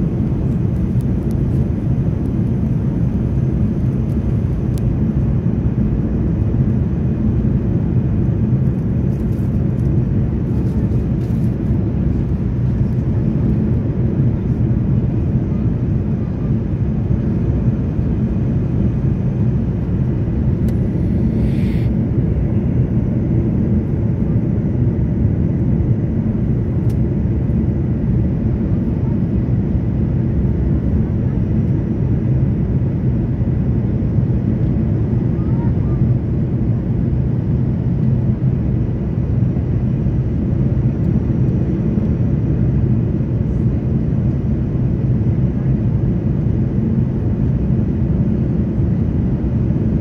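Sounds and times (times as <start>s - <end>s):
airliner engine and airflow rumble: 0.0s - 50.0s.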